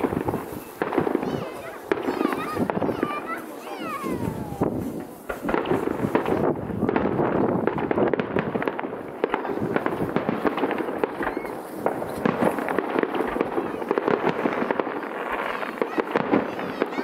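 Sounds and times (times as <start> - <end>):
distant fireworks bangs and crackles: 0.0 - 17.0.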